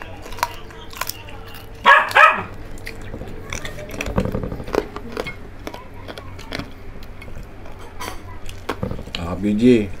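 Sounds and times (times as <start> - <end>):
people chewing crispy food: 0.0 - 10.0.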